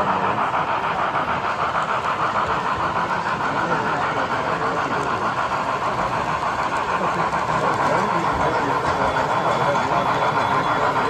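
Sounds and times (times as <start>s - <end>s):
crowd chatter: 0.0s - 11.0s
model train running: 0.0s - 11.0s.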